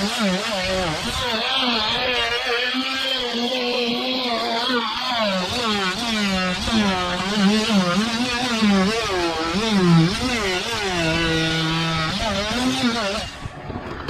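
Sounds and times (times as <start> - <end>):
oscillating multi-tool cutting: 0.0 - 14.0.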